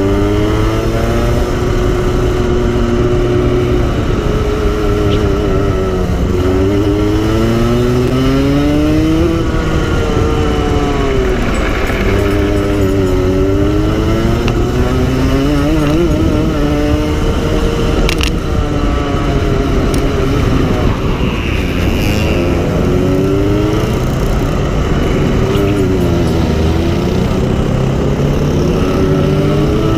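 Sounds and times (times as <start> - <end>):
go-kart engine revving: 0.0 - 29.9.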